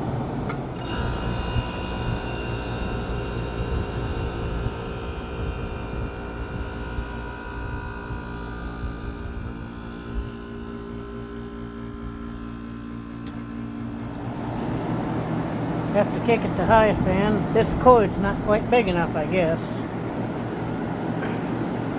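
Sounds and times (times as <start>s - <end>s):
air conditioner humming: 0.0s - 21.9s.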